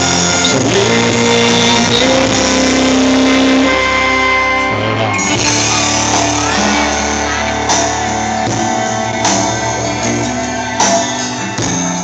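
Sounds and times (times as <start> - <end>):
instrumental guitar backing music: 0.0 - 12.0.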